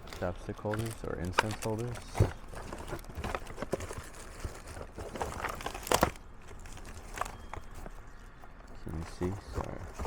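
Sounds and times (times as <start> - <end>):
wrappers crinkling and rustling: 0.0 - 10.0.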